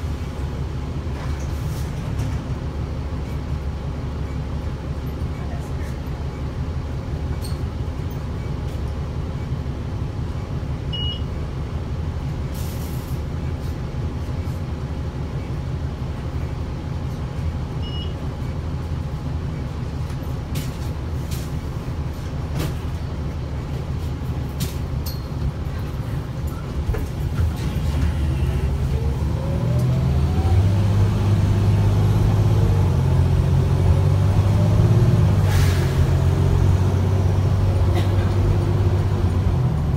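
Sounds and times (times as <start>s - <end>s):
bus accelerating with rising whine: 0.0s - 39.9s
bus engine idling: 0.0s - 39.9s.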